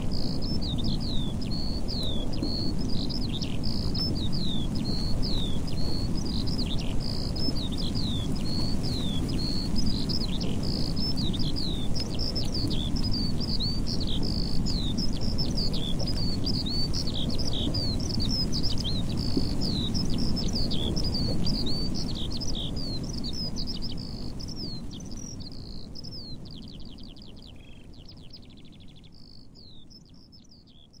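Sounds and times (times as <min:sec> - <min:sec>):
low background rumble: 0:00.0 - 0:30.9
skylark singing: 0:00.0 - 0:31.0.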